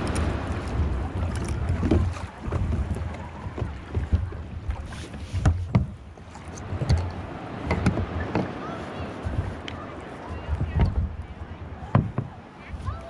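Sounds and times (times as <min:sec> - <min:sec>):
knocks and thumps from kayak: 0:00.0 - 0:09.7, 0:10.3 - 0:13.0
wind buffeting microphone: 0:00.0 - 0:13.0.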